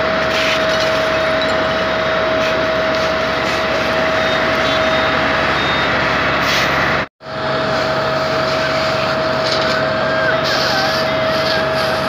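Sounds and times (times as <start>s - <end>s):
engine and water pump running: 0.0s - 12.0s
pump whine: 0.0s - 12.0s.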